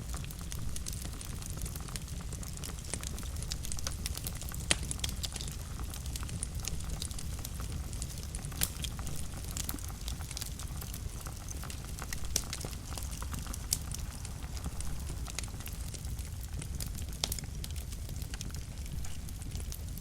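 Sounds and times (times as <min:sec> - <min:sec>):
fire crackling in fireplace: 0:00.0 - 0:20.0
loud pops of fire: 0:00.1 - 0:20.0.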